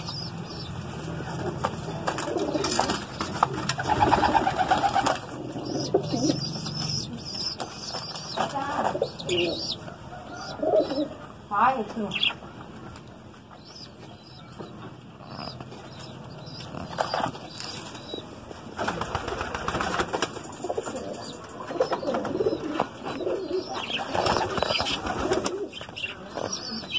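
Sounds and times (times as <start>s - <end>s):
pigeons cooing: 0.0s - 11.5s, 13.6s - 26.9s.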